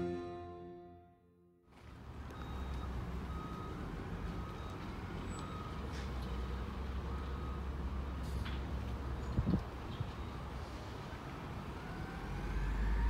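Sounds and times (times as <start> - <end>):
low rumble of truck and street: 0.0 - 13.0
truck reversing alarm beeps: 2.3 - 13.0.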